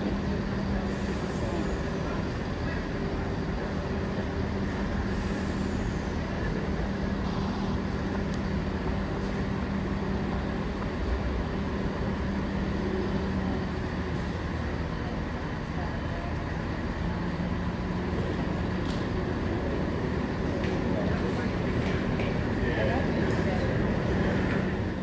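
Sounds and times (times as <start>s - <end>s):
train mechanical hum: 0.0s - 25.0s.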